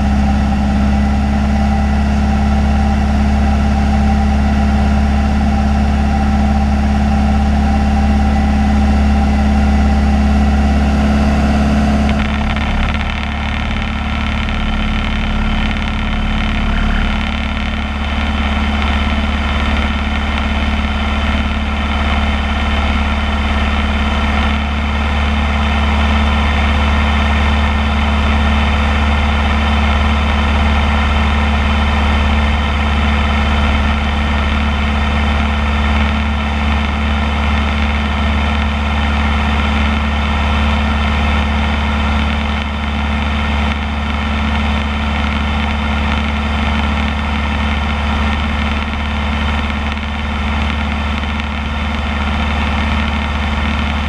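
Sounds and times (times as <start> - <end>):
airplane engine and propeller droning: 0.0 - 54.0.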